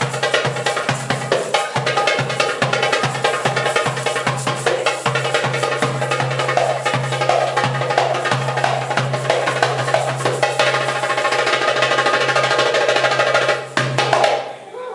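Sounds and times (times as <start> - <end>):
goblet drum fast rhythm: 0.0 - 14.6.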